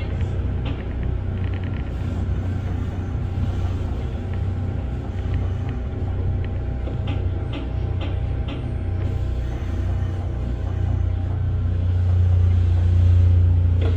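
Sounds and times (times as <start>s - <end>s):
electric train rumbling: 0.0s - 13.9s.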